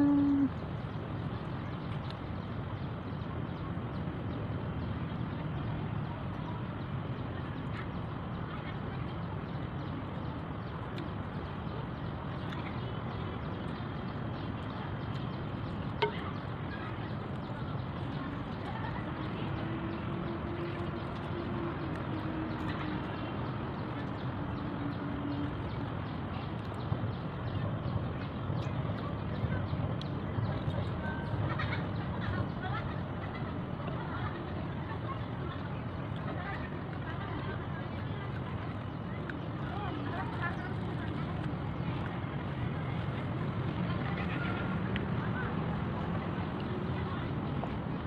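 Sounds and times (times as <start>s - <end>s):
outdoor background noise: 0.0s - 48.0s.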